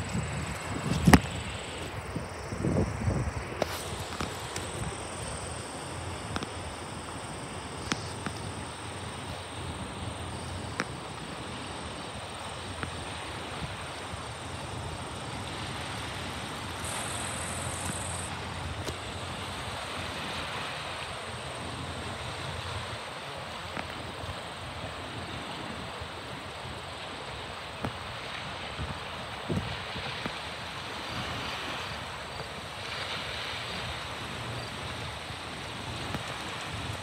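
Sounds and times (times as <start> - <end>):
even hiss: 0.0 - 37.0.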